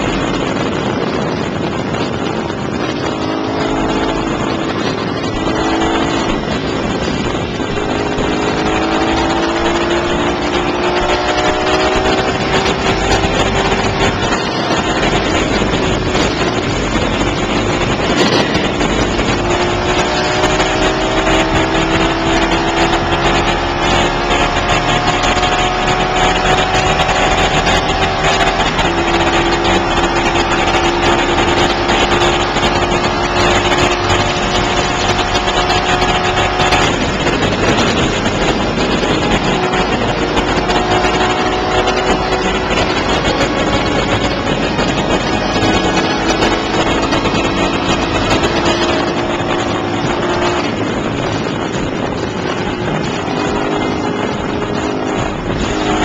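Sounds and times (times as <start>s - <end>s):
motorcycle engine at high revs: 0.0s - 56.0s
wind rush on microphone: 0.0s - 56.0s.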